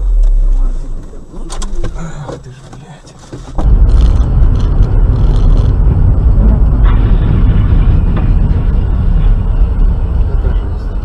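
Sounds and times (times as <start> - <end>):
car driving road rumble: 0.0 - 11.0.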